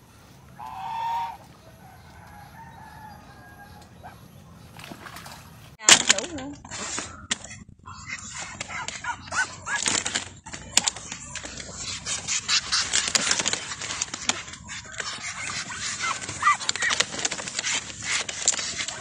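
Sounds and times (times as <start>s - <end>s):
ducks hissing: 0.0s - 5.7s, 6.6s - 19.0s
ducks scuffling: 0.0s - 19.0s.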